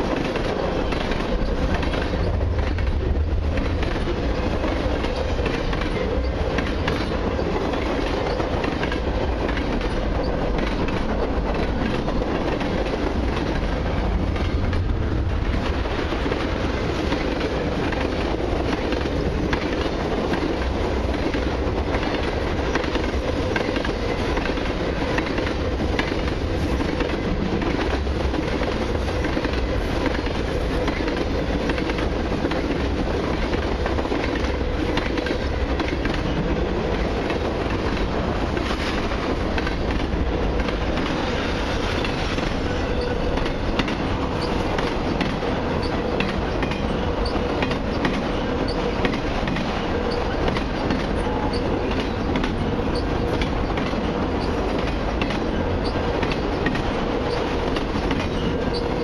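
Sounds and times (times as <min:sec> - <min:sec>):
clicking over rail joints: 0:00.0 - 0:59.0
train wheels rumbling on rail: 0:00.0 - 0:59.0.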